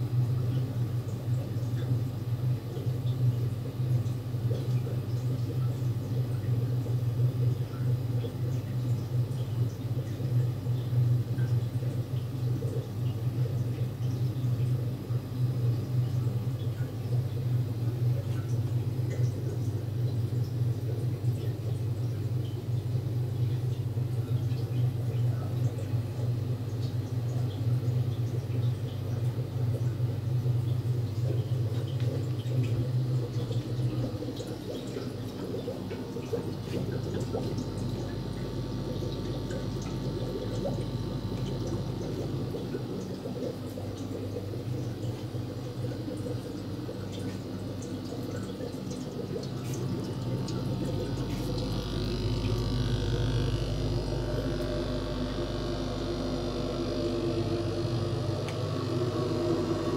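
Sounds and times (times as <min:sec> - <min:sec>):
aquarium air pumps humming: 0:00.0 - 0:59.9
boiler blower fan hum: 0:00.0 - 0:59.9
water bubbling and trickling: 0:00.0 - 0:59.9.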